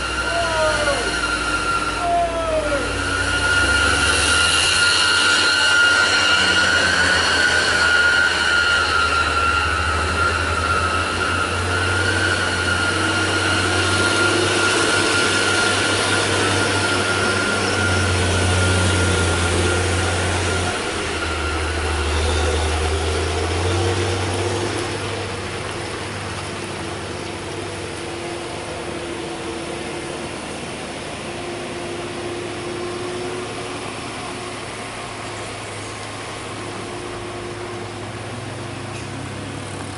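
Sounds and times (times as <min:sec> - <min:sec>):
high whine: 0:00.0 - 0:39.9
truck diesel engine labouring: 0:00.0 - 0:39.9.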